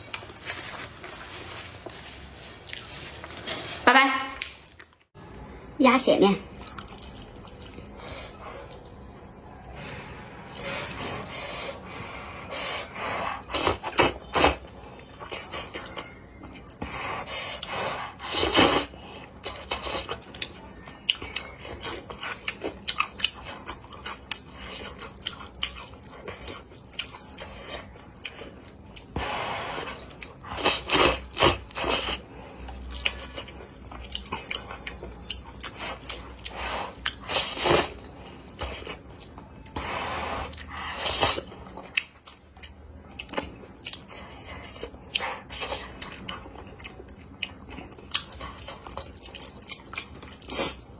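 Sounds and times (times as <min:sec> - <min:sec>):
person chewing noodles: 0:06.5 - 0:09.4, 0:10.4 - 0:50.9.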